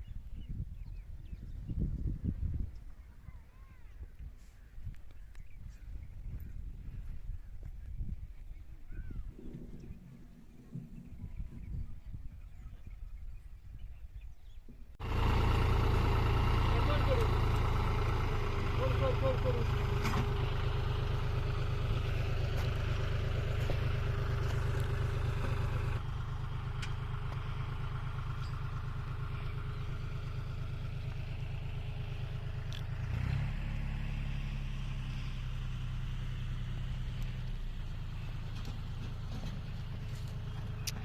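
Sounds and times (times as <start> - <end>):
engine running with low pulsing: 0.0 - 41.0.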